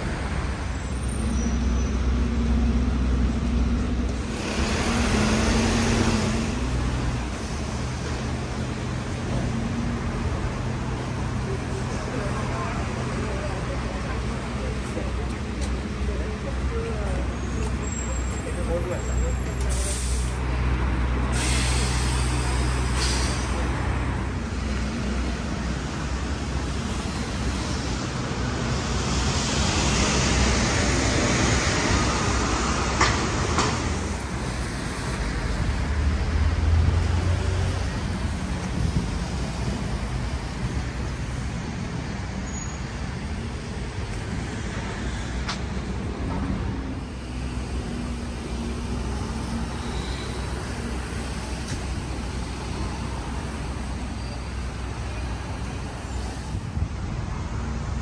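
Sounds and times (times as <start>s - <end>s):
heavy vehicle rumbling by: 0.0s - 58.0s
road traffic passing: 0.0s - 58.0s.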